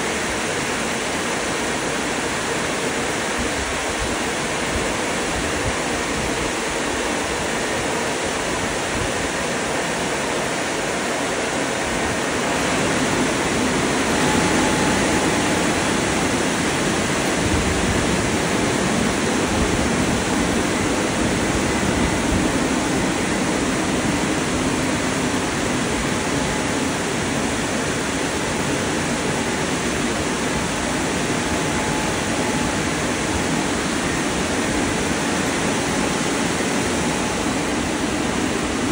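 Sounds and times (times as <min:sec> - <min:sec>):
car wash blowers rushing air: 0:00.0 - 0:38.9
faint steady whine: 0:00.0 - 0:38.9.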